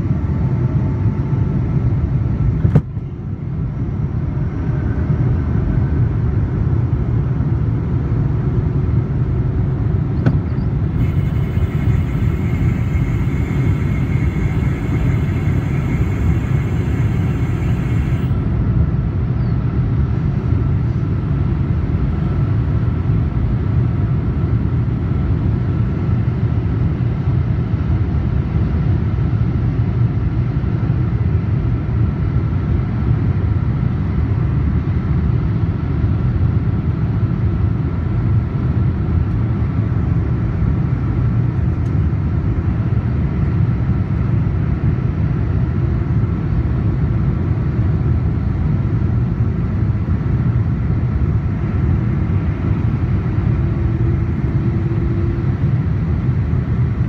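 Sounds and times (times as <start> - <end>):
airplane engines rumbling: 0.0 - 57.0.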